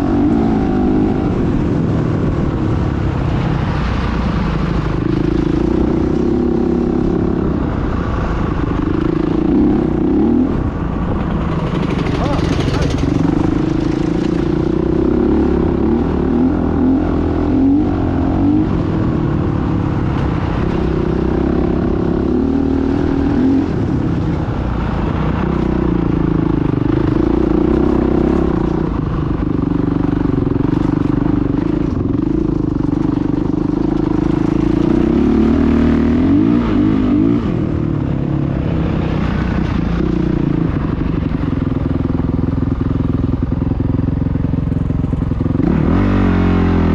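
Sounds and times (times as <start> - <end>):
dirt bike engines revving: 0.0 - 43.6.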